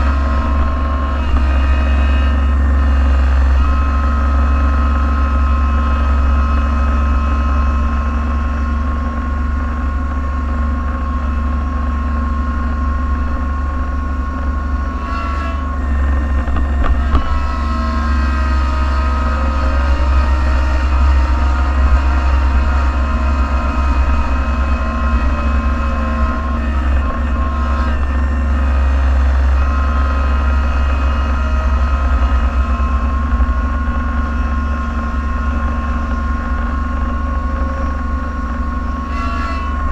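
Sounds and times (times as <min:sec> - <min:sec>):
truck engine hum with whine: 0:00.0 - 0:39.9.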